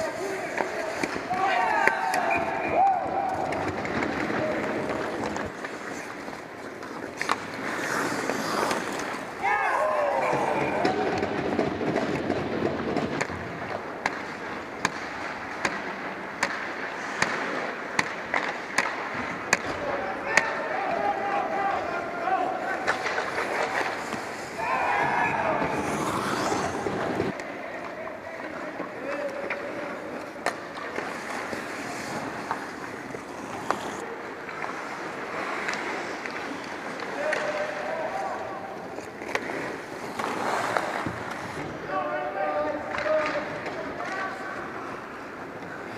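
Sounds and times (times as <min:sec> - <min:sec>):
hockey sticks and puck clacking: 0:00.0 - 0:45.9
skates scraping ice: 0:00.0 - 0:45.9.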